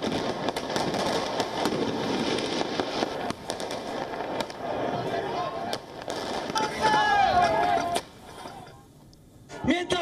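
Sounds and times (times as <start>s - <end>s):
fireworks cracking and popping: 0.0s - 10.0s.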